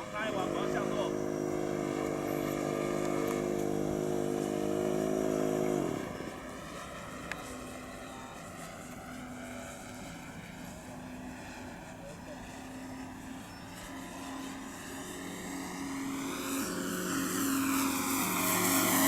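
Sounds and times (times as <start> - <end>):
model plane propeller: 0.0 - 19.0
simulated piston engine drone: 0.0 - 19.0.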